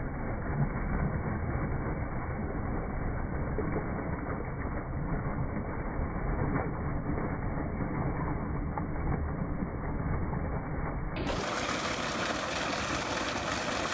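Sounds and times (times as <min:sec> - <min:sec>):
water gushing from pipe: 0:00.0 - 0:13.9.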